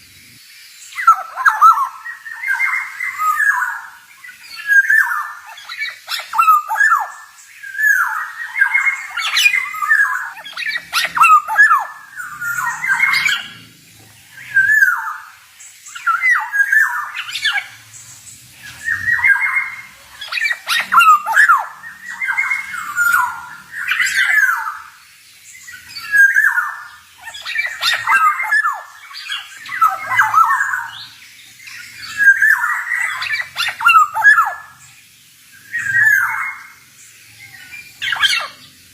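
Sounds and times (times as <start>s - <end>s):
oriole singing and squawking: 0.9s - 38.9s.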